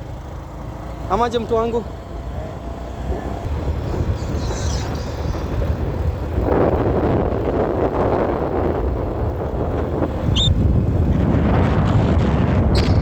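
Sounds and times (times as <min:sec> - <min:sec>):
motorcycle running: 0:00.0 - 0:13.0
wind over microphone: 0:02.1 - 0:13.0.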